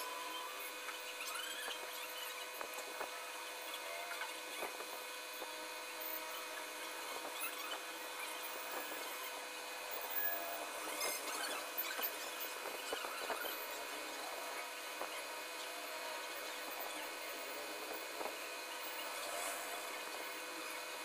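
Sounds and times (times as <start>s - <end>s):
small clicks and squeaks: 0.0s - 20.8s
steady background whine: 0.0s - 21.0s.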